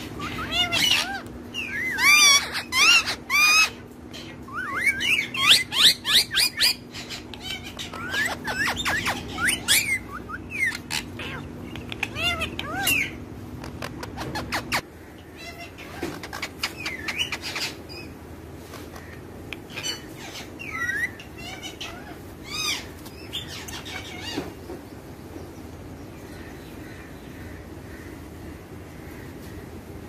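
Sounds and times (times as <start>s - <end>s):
parakeets chirping and squawking: 0.0s - 24.6s.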